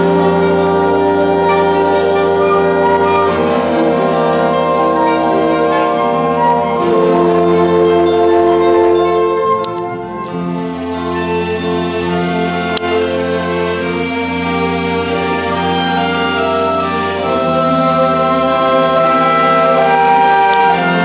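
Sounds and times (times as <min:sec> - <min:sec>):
string orchestra playing: 0:00.0 - 0:21.0.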